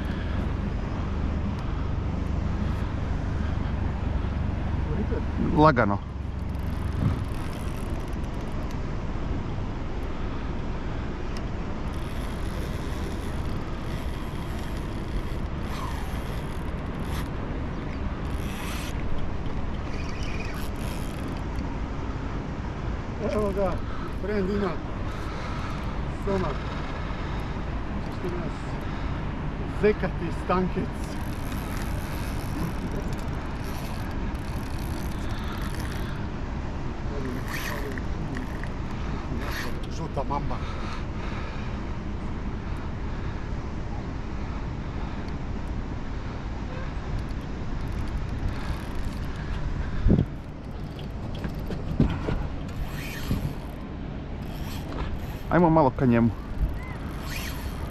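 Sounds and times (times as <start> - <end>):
outboard motor idling: 0.0 - 22.5, 23.2 - 43.5, 46.4 - 57.9.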